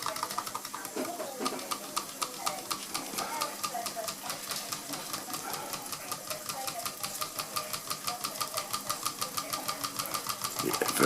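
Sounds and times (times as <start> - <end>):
toy steam engine chuffing: 0.0 - 11.0.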